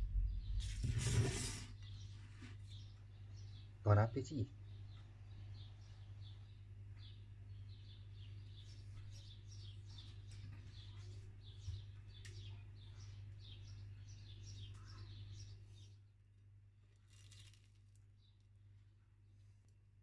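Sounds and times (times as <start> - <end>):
birds chirping: 0.0 - 16.4
steady low hum: 0.0 - 17.0.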